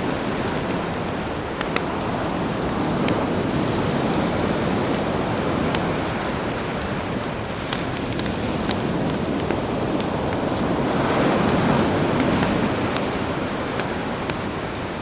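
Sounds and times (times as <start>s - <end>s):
campfire crackling and popping: 0.0s - 15.0s
sea surf washing: 0.0s - 15.0s.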